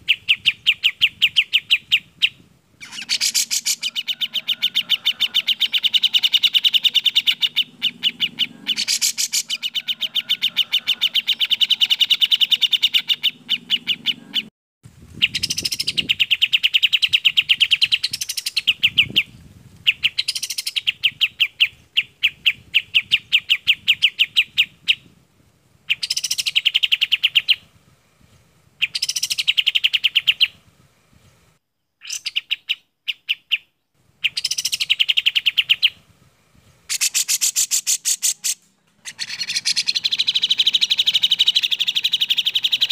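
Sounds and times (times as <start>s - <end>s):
birds chattering songs: 0.0s - 14.5s, 15.2s - 25.1s, 25.9s - 27.7s, 28.8s - 30.6s, 31.2s - 36.0s, 36.8s - 42.9s.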